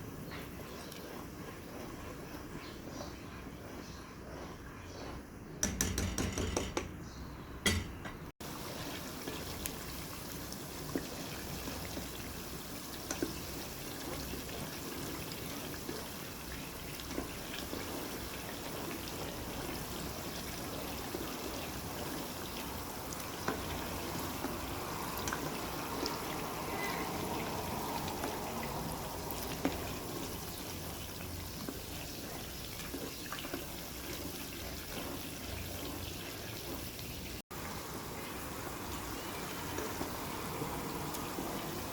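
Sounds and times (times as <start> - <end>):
oil bubbling in a pan: 7.6 - 41.9.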